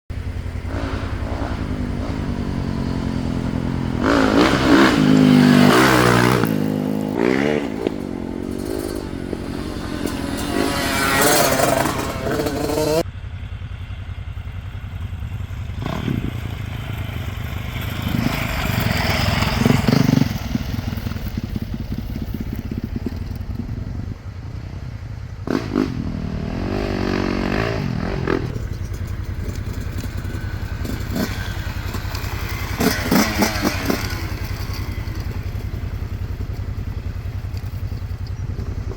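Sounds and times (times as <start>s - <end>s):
dirt bike engine revving: 0.2s - 13.1s, 15.4s - 24.2s, 25.4s - 37.2s.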